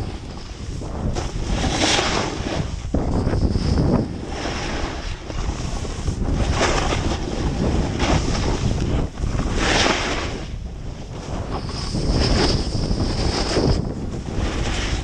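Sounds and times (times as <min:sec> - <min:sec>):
skis scraping snow: 0:00.0 - 0:10.5, 0:11.2 - 0:15.0
wind buffeting microphone: 0:00.0 - 0:15.0.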